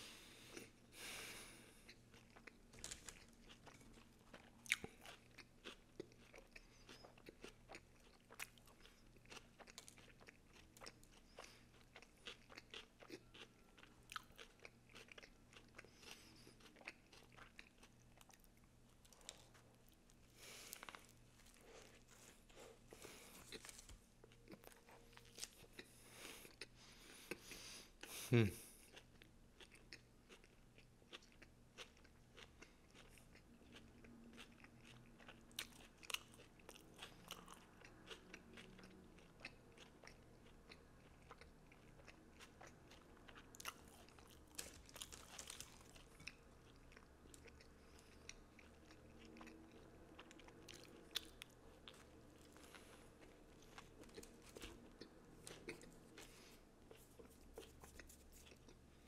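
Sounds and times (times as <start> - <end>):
soft crunches of chewing: 0.0 - 59.0
chewing with wet mouth clicks: 1.8 - 20.1, 28.9 - 58.8.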